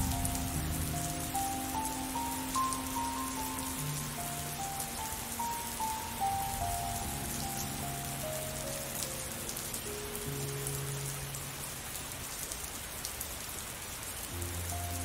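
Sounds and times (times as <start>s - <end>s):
slow calm music: 0.0s - 12.4s, 14.2s - 15.0s
rain falling: 0.0s - 15.0s.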